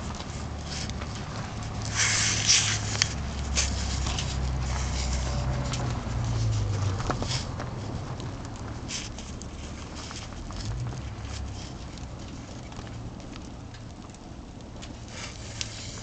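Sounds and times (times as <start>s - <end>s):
fire crackling in metal barrel: 0.0s - 16.0s.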